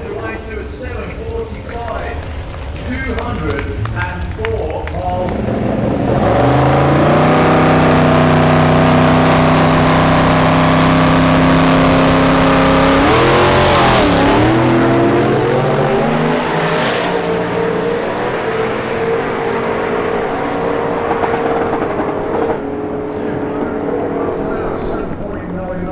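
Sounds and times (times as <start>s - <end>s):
drag car engine revving: 0.0s - 25.9s.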